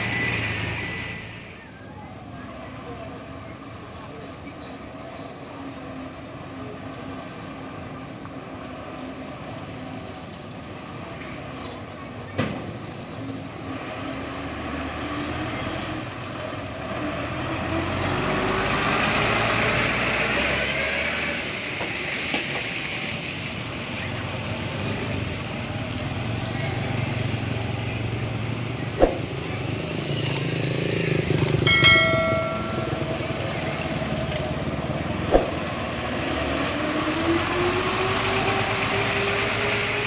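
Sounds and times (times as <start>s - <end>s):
truck engine running under load: 0.0s - 40.0s.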